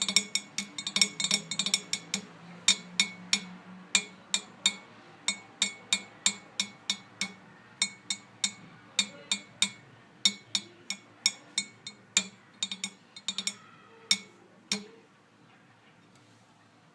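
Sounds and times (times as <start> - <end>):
sharp ringing taps: 0.0 - 15.0.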